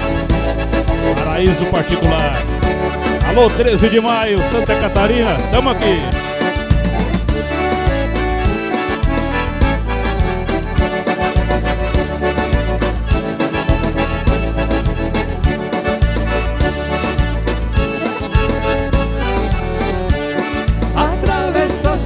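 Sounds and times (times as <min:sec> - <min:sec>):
accordion playing: 0:00.0 - 0:22.0
bass notes and percussion: 0:00.0 - 0:22.0.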